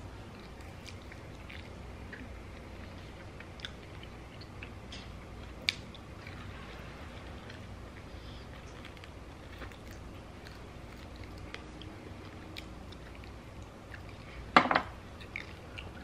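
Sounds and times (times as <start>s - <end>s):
chewing meat off bone: 0.3s - 4.8s, 5.4s - 16.0s.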